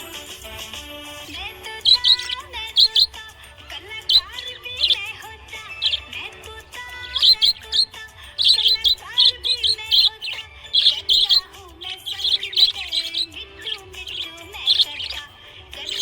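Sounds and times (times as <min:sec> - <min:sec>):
budgerigar chirping: 0:00.0 - 0:16.0
music: 0:00.0 - 0:16.0.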